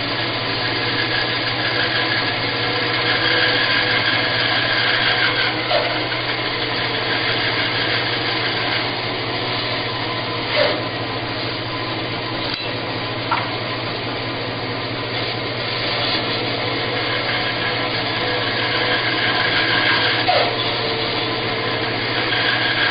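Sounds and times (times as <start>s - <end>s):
bandsaw blade cutting wood: 0.0s - 11.0s, 15.2s - 22.9s
bandsaw motor hum: 0.0s - 22.9s.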